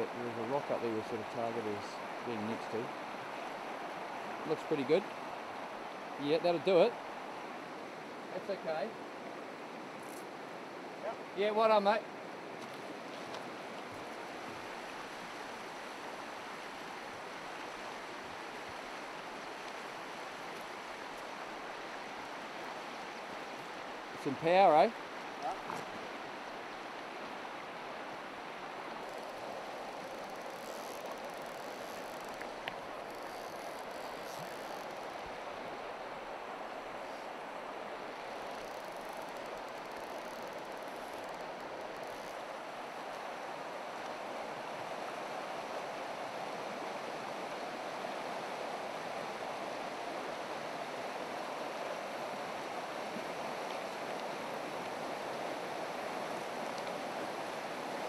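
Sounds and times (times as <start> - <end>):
shallow river over stones: 0.0 - 58.0.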